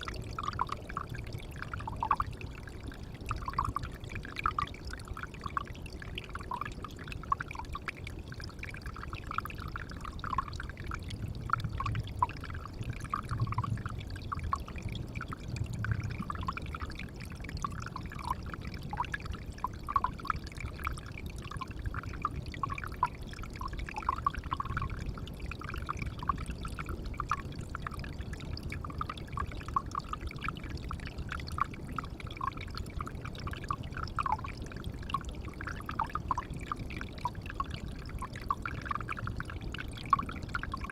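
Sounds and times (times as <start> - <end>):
water pouring into pond: 0.0 - 40.9.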